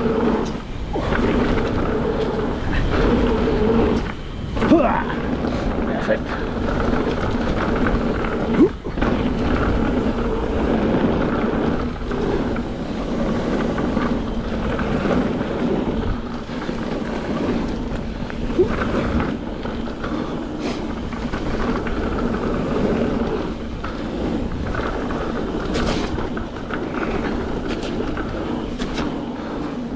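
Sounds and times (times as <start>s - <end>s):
bike rattling: 0.0s - 29.9s
bike tyres rolling on gravel: 0.0s - 29.9s.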